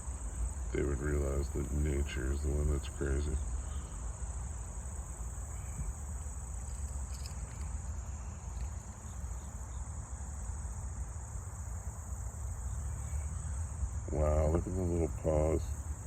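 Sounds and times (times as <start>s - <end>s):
insects chirping: 0.0s - 16.0s
low outdoor rumble: 0.0s - 16.0s.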